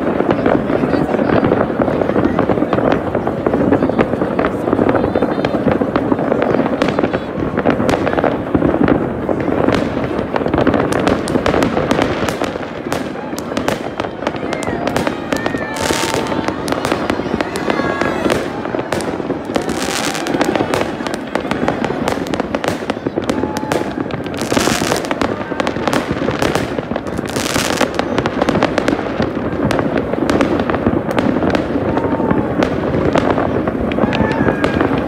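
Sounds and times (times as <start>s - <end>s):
fireworks banging and crackling: 0.0s - 35.0s
hissing crackling firework bursts: 0.0s - 35.0s.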